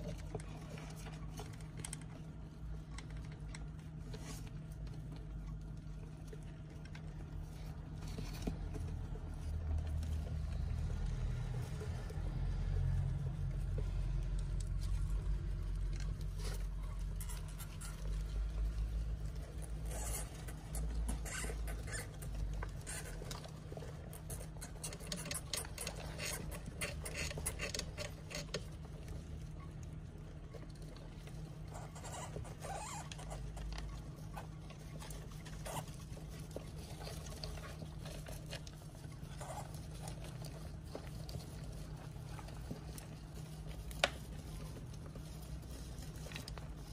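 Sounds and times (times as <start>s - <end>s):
hamsters nibbling: 0.0s - 46.9s
hamsters rustling in bedding: 0.0s - 46.9s
low steady hum: 0.0s - 46.9s.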